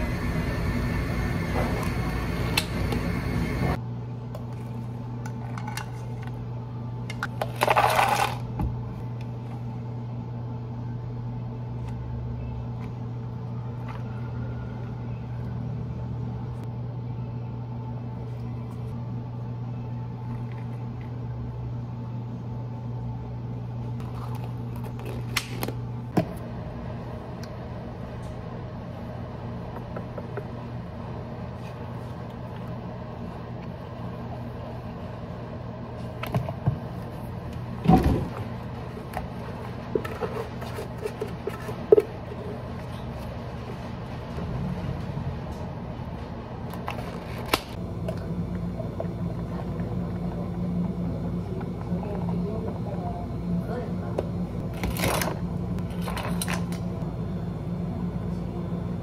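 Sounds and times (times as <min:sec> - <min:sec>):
low hum of cafe equipment: 0:00.0 - 0:59.0.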